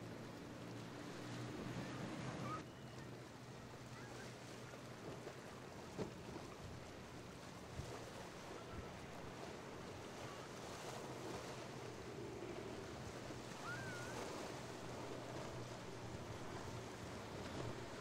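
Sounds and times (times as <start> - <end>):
boat engines droning: 0.0 - 18.0
surf: 0.0 - 18.0.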